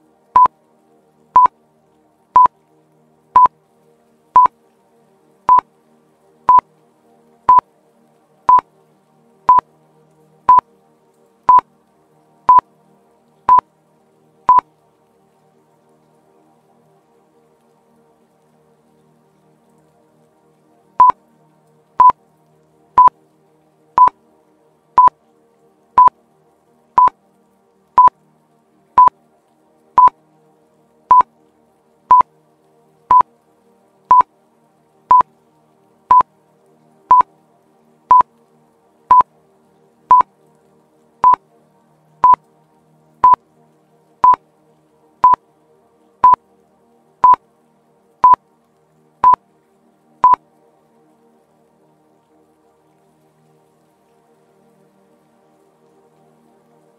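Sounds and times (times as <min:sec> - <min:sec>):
faint background music: 0:00.0 - 0:56.9.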